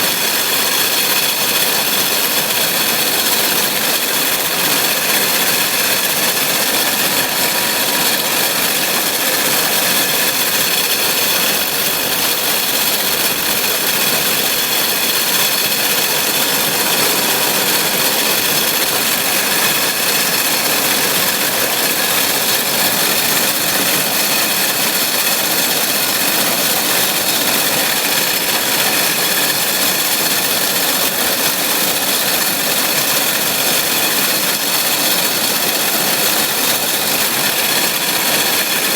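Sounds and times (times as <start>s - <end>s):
baler and tractor running: 0.0s - 38.9s.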